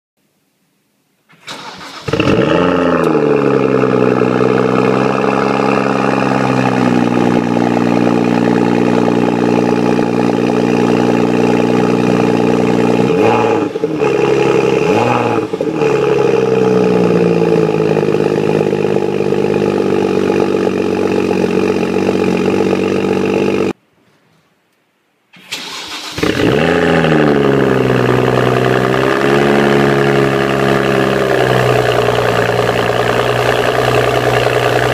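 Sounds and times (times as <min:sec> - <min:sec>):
car engine cold start and idle: 0:01.3 - 0:23.8, 0:25.4 - 0:34.9
engine revving: 0:01.5 - 0:23.8, 0:25.5 - 0:34.9.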